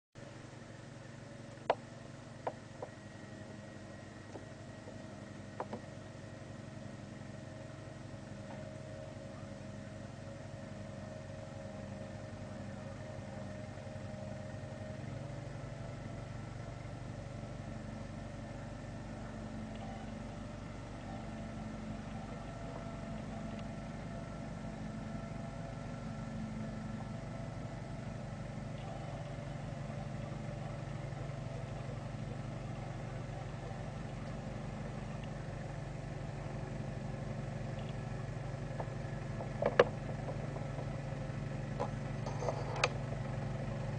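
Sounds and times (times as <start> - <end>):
garden tractor engine running: 0.2 - 43.9.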